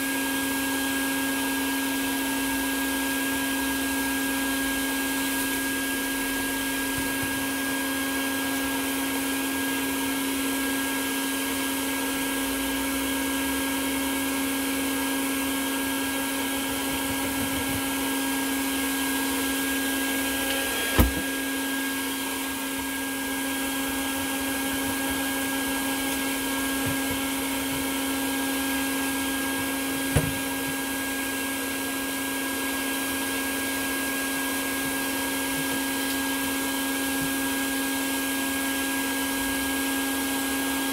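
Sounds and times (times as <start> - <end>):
vacuum motor humming: 0.0 - 40.9.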